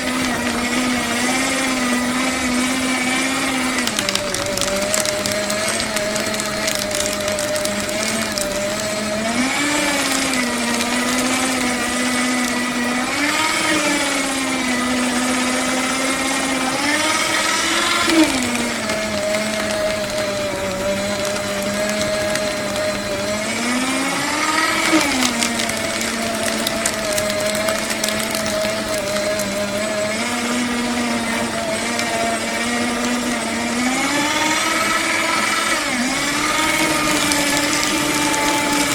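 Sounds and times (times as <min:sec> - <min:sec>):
paper being cut crunching: 0:00.0 - 0:38.9
paper shredder motor hum: 0:00.0 - 0:38.9.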